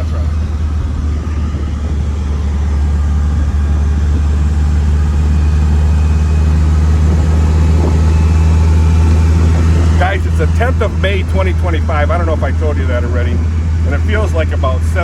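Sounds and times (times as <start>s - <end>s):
car engine droning while driving: 0.0s - 15.0s.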